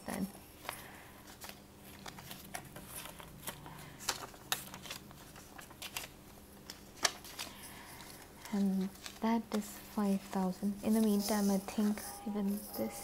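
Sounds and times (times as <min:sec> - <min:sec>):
banknotes rustling while counted: 0:00.1 - 0:13.0.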